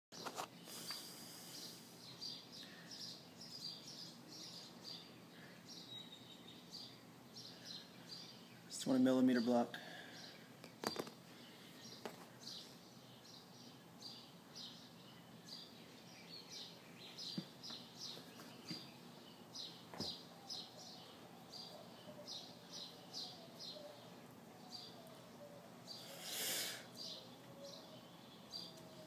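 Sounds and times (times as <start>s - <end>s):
small bird chirping: 0.2s - 9.0s, 10.2s - 29.0s.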